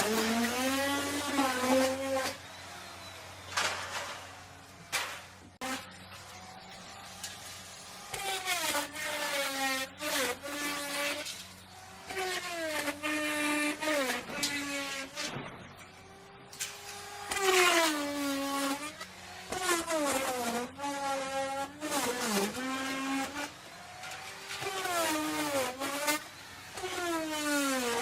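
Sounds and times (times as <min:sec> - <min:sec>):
wood router cutting wood: 0:00.0 - 0:28.0.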